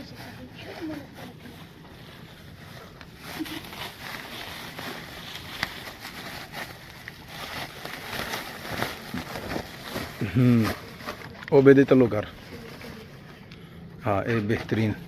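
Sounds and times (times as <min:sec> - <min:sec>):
plastic tarpaulin rustling: 0:00.0 - 0:13.4.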